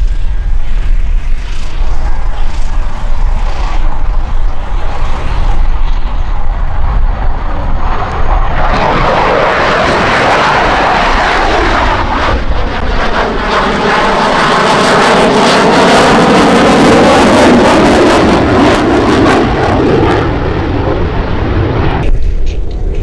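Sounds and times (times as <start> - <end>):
jet flying past overhead: 0.0 - 23.0.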